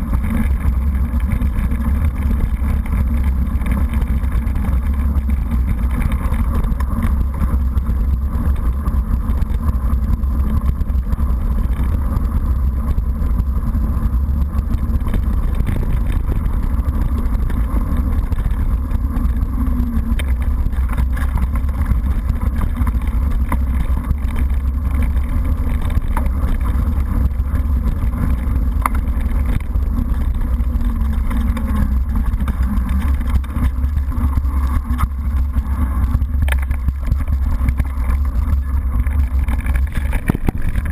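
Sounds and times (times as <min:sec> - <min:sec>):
stones knocking and bike rattling: 0:00.0 - 0:40.9
wind and tyres on gravel: 0:00.0 - 0:40.9.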